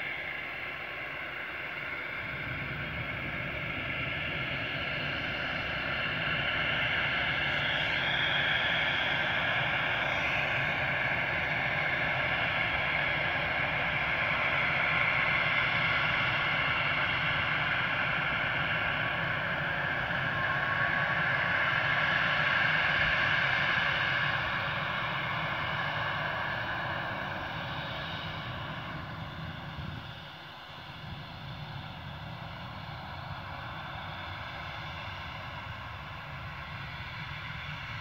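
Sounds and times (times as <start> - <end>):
jet engines spooling up: 0.0 - 38.0.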